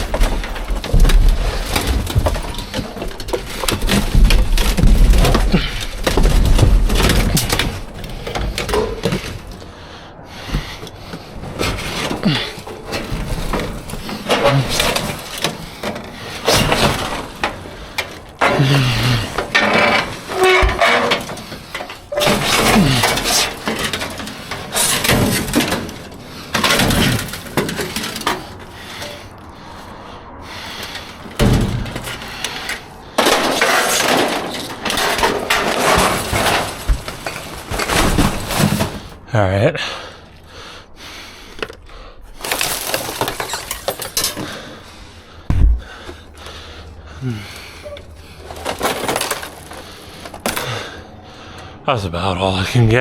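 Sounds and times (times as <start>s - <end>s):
scrap metal clanking in a dumpster: 0.0s - 40.6s, 45.9s - 51.7s.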